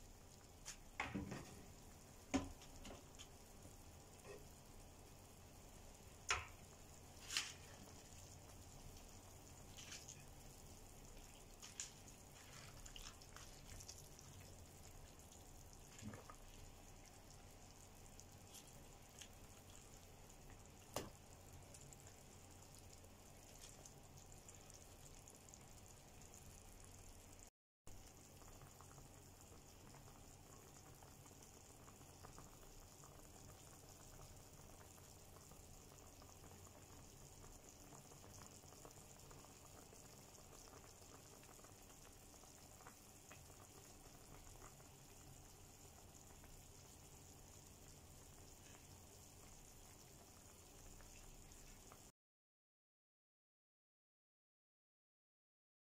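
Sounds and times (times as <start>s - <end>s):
soup bubbling in a pot: 0.0s - 52.1s.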